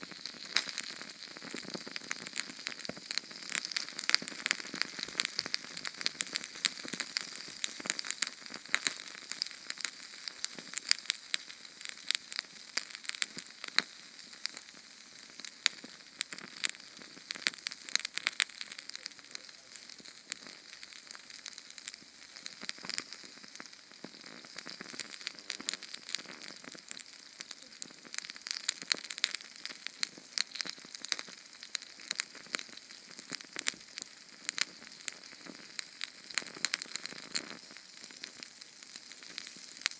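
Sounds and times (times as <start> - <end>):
small flame crackling: 0.0 - 39.9.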